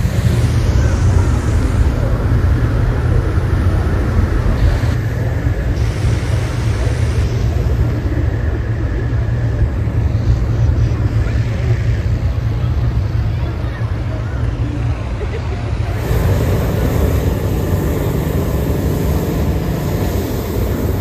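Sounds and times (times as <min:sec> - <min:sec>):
faint crowd voices: 0:00.0 - 0:21.0
inflator fans droning: 0:00.0 - 0:21.0.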